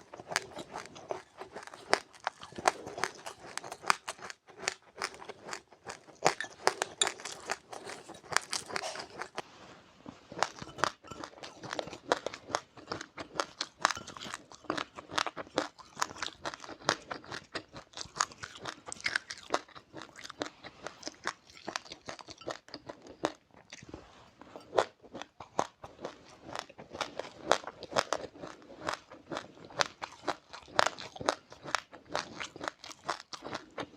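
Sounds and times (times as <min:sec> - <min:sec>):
person chewing crunchy seeds: 0:00.0 - 0:09.4, 0:10.1 - 0:33.9.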